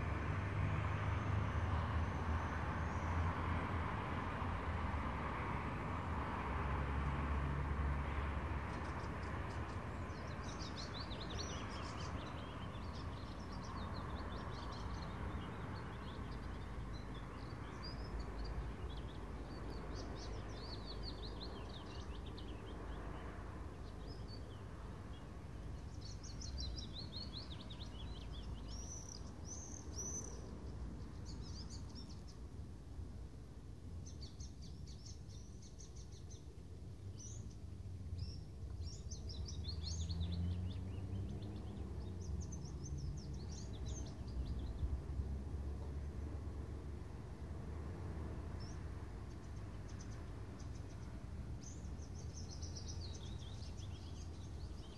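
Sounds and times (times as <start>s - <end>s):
songbirds twittering: 7.9s - 54.9s.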